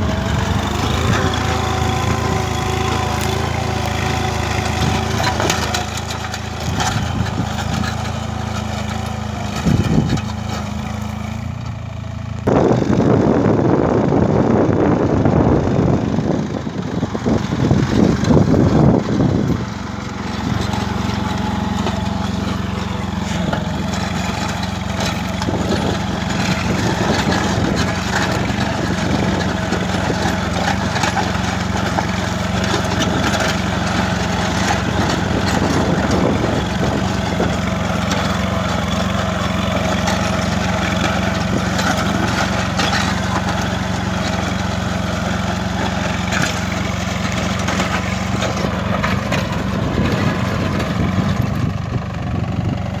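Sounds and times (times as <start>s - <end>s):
plough discs scraping soil: 0.0s - 11.8s, 17.0s - 53.0s
tractor diesel engine running: 0.0s - 53.0s.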